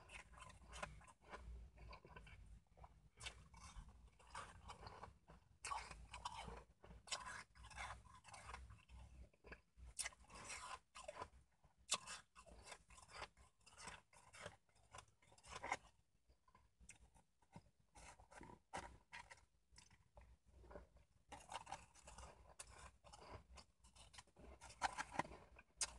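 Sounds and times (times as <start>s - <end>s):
ice being chewed and crunched: 0.0s - 25.9s.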